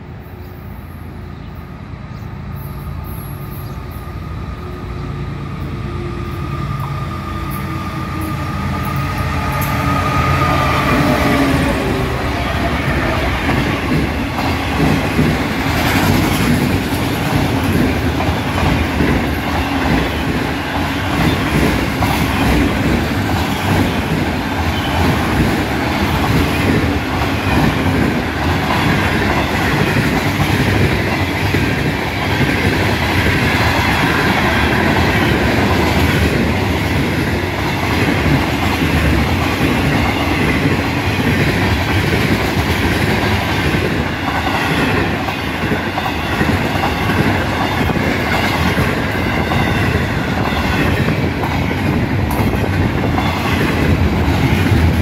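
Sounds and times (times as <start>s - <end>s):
train wheels rumbling and clattering: 1.0s - 55.0s.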